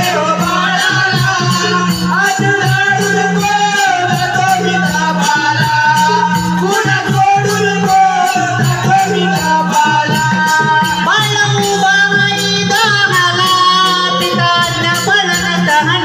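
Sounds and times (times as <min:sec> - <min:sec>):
rattling percussion beat: 0:00.0 - 0:16.0.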